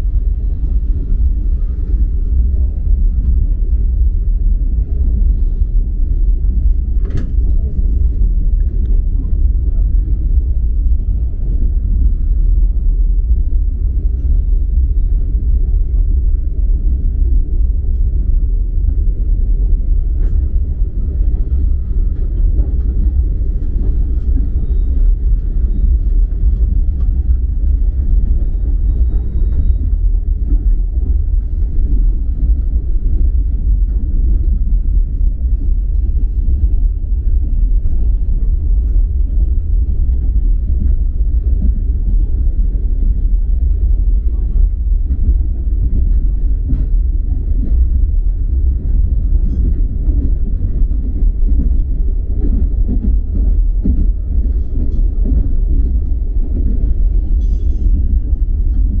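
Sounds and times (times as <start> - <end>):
train wheels on rails rumbling: 0.0 - 59.0.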